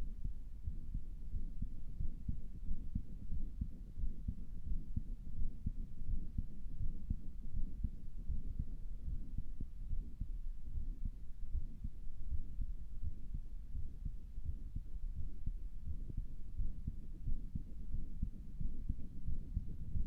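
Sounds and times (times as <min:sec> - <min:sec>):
heartbeat through stethoscope: 0:00.0 - 0:20.0.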